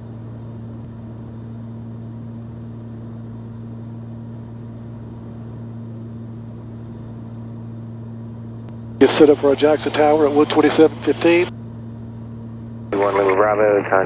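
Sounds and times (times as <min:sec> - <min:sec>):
airplane engines droning in cockpit: 0:00.0 - 0:14.0.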